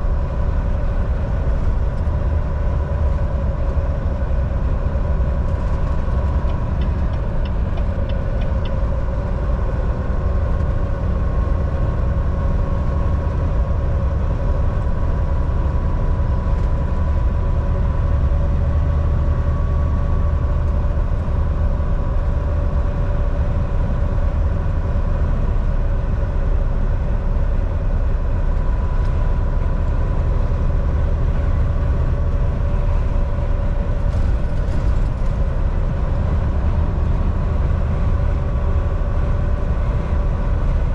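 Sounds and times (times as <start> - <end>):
road rumble: 0.0 - 40.9
truck diesel engine drone: 0.0 - 40.9.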